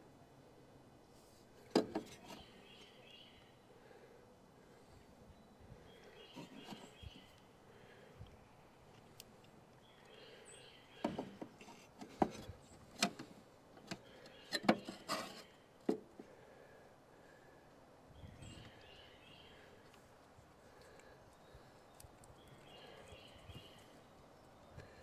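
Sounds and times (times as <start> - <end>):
faint outdoor chirping: 0.0 - 25.0.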